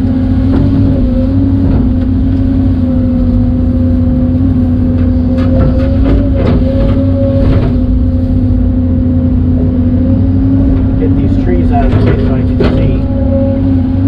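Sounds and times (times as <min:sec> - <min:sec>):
excavator diesel engine running: 0:00.0 - 0:14.0
hydraulic whine: 0:00.0 - 0:14.0.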